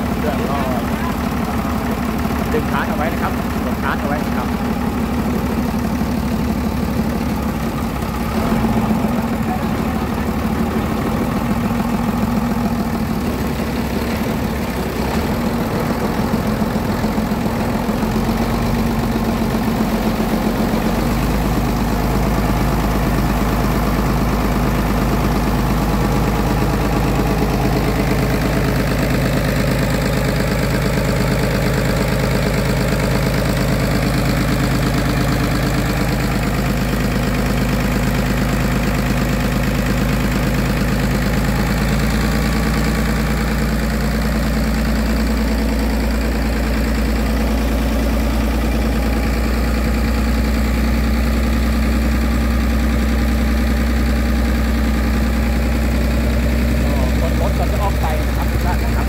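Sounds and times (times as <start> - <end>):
water pump engine running: 0.0 - 59.0.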